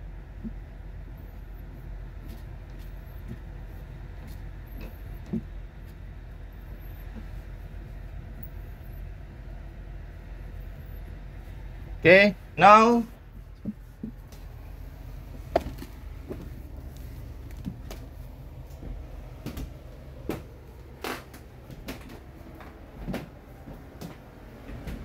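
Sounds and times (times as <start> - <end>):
footsteps and knocks in a boat: 0.0 - 25.0
low steady hum: 0.0 - 25.0.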